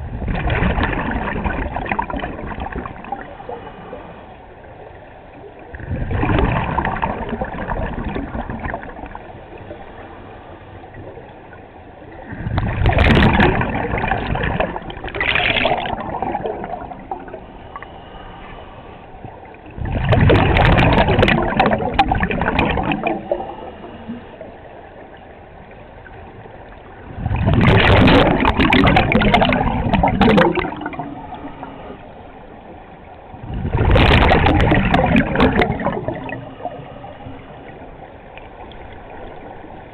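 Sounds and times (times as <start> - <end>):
underwater regulator exhale bubbling: 0.0 - 4.2, 5.7 - 10.2, 12.1 - 24.6, 27.0 - 32.3, 33.3 - 39.5.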